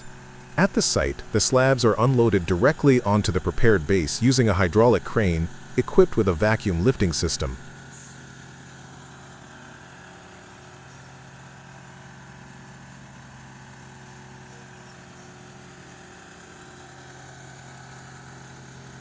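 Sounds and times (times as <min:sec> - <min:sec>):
crane engine humming: 0:00.0 - 0:19.0.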